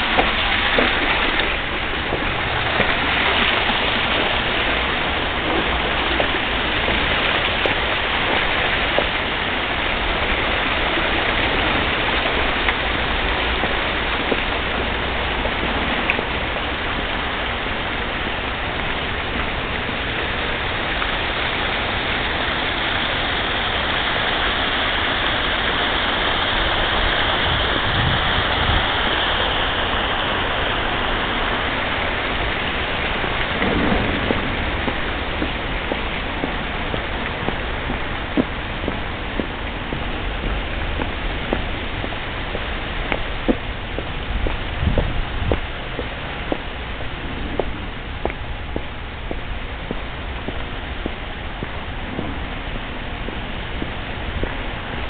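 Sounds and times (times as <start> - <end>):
waterfall splashing: 0.0 - 55.0.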